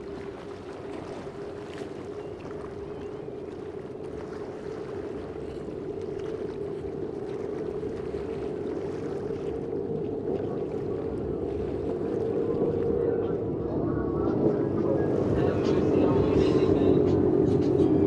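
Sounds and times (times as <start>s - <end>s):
boat engines droning: 0.0s - 18.0s.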